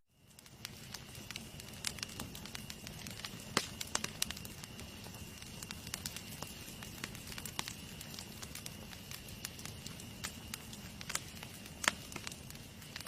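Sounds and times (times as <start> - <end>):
wood fire crackling and popping: 0.1 - 13.0.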